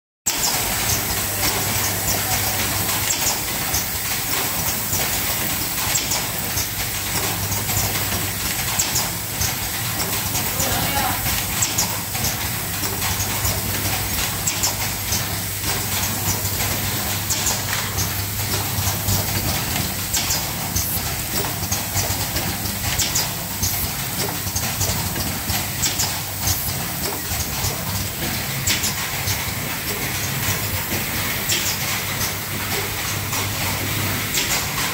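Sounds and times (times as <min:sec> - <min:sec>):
machine hiss and low hum: 0:00.3 - 0:34.9.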